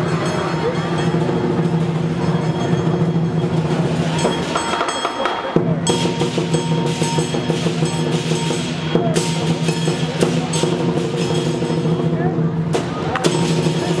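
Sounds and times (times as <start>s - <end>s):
cymbals clashing: 0.0s - 14.0s
large drum beaten fast: 0.0s - 14.0s.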